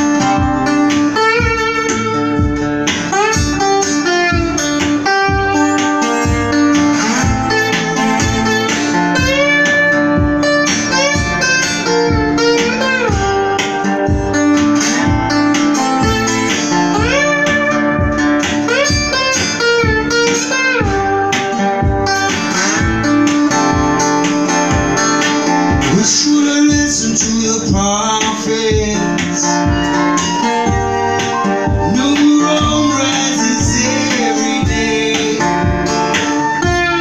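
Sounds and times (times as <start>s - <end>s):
slide guitar playing blues: 0.0s - 37.0s
steady low beat: 0.0s - 37.0s.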